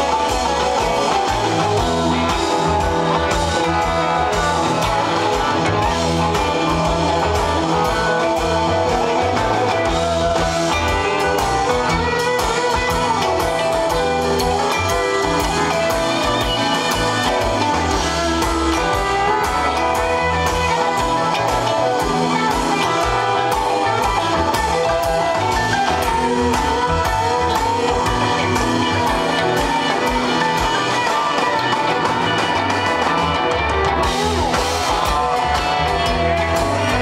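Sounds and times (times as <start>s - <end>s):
drum kit beat: 0.0s - 37.0s
electric bass: 0.0s - 37.0s
electric guitars: 0.0s - 37.0s.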